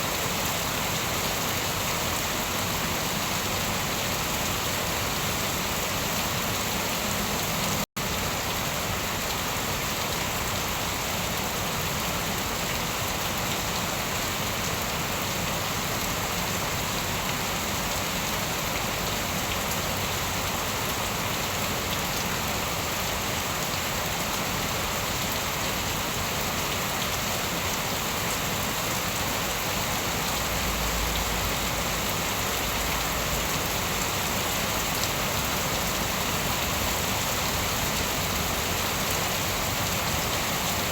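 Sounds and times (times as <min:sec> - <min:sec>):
heavy rain falling: 0:00.2 - 0:40.9.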